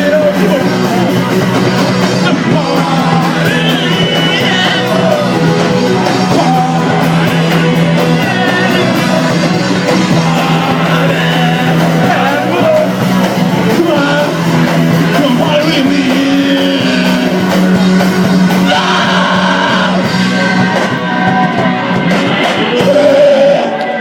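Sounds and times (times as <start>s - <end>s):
electric guitar: 0.0s - 24.0s
live punk rock band: 0.0s - 24.0s
person singing: 0.0s - 24.0s.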